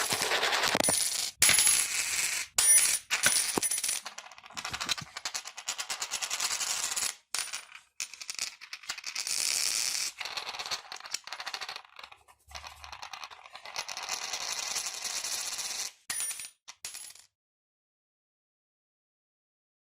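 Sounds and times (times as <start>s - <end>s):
coins spinning on hard surface: 0.0s - 17.3s.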